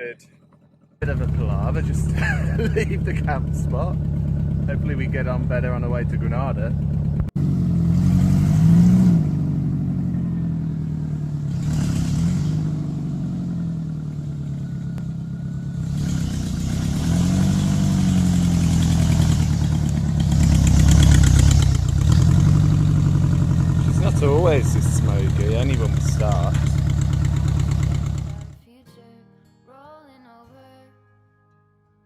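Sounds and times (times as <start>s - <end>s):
van engine revving: 0.0s - 28.6s.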